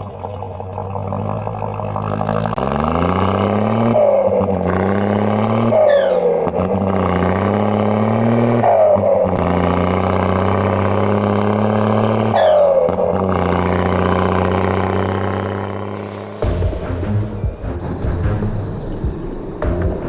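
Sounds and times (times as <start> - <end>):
toy vehicle engine accelerating: 1.0 - 20.0.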